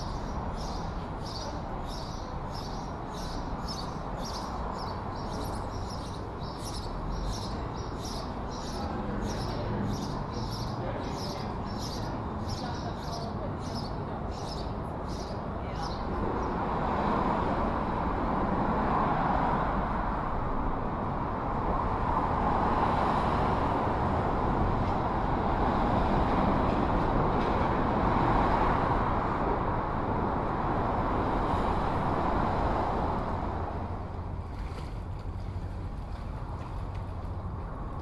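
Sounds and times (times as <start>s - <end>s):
highway traffic passing: 0.0s - 38.0s.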